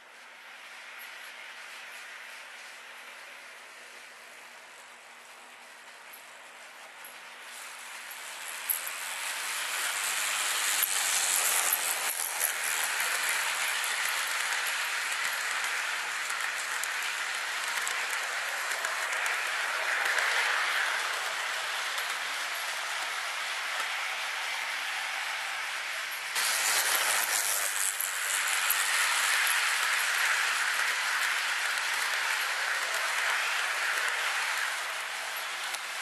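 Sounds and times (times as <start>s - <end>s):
model train wheels rattling: 0.5s - 36.0s.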